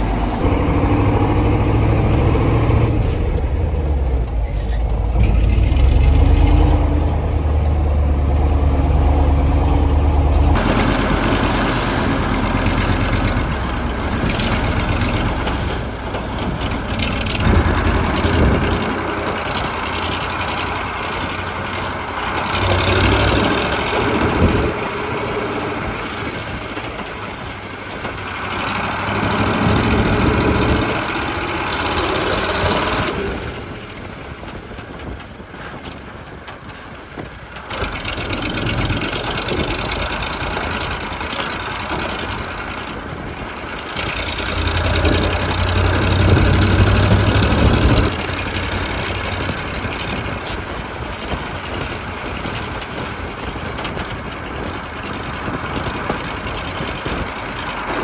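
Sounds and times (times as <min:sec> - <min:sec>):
diesel truck engine driving: 0:00.0 - 0:58.0.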